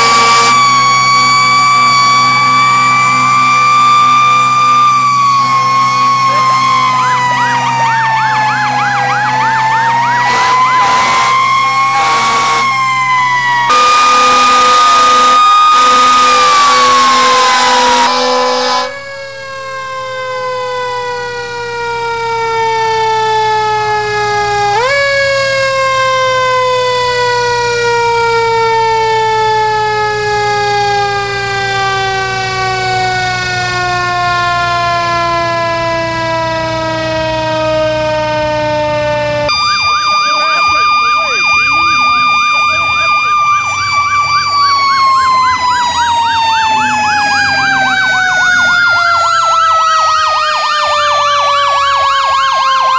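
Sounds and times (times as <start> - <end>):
fast-warbling siren: 0.0 - 52.9
fire truck mechanical siren wailing: 0.0 - 52.9.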